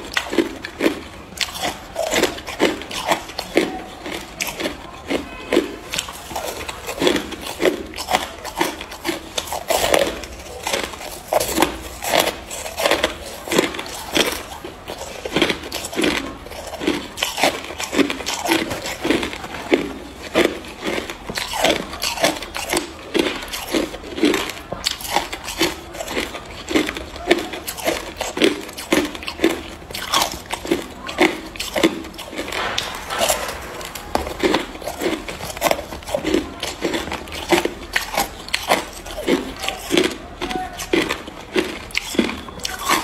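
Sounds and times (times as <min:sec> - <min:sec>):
ice crunching while chewed: 0:00.0 - 0:43.0.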